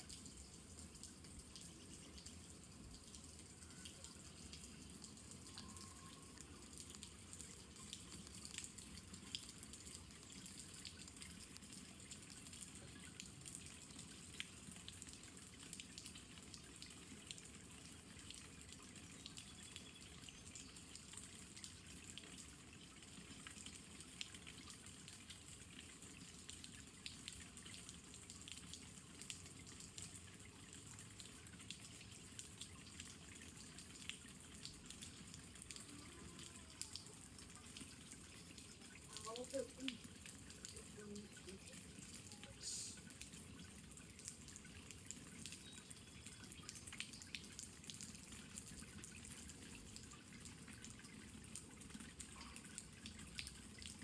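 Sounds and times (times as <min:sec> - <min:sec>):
faint rain falling: 0:00.0 - 0:54.0
water drips: 0:00.0 - 0:54.0.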